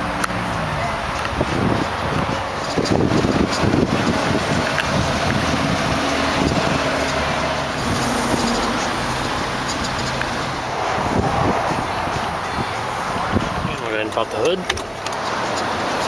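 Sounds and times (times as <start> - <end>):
rushing noise: 0.0 - 13.8
car engine idling: 0.0 - 16.0.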